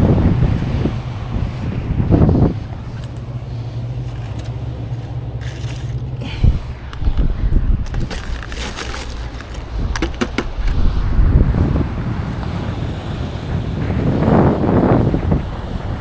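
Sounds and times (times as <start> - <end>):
waves washing on beach: 0.0 - 7.2, 7.8 - 16.0
wind buffeting microphone: 0.0 - 16.0.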